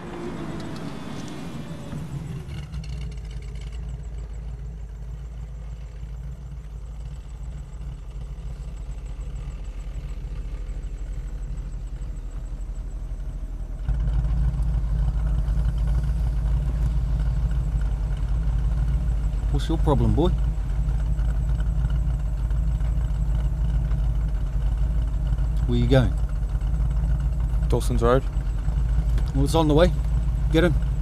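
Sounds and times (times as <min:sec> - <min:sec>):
car engine rumbling from cabin: 0:00.0 - 0:31.0.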